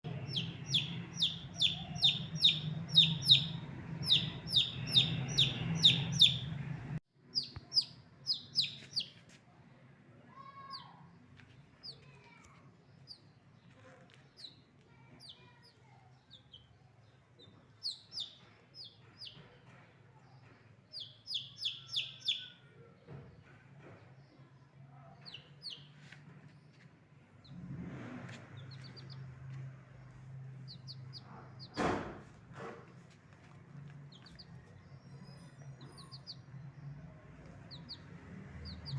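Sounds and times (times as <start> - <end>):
chicks peeping: 0.0 - 9.4, 13.0 - 24.4, 25.2 - 38.9.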